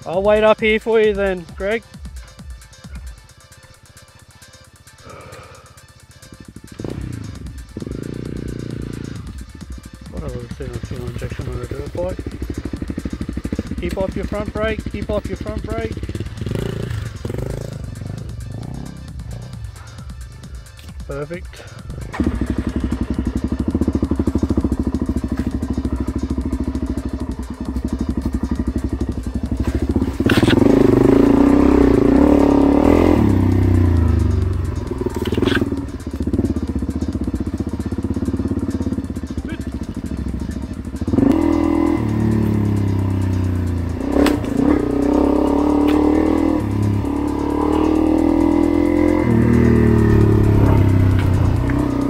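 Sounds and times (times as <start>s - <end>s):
dirt bike engine revving: 5.1s - 20.0s, 21.5s - 52.0s.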